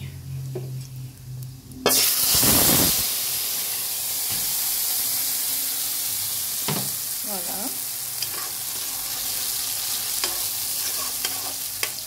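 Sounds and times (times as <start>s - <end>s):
paste sizzling in hot oil: 1.9s - 12.0s.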